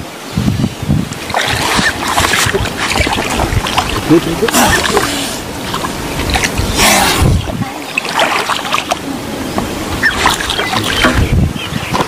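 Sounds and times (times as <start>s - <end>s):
water splashing: 0.1s - 12.0s.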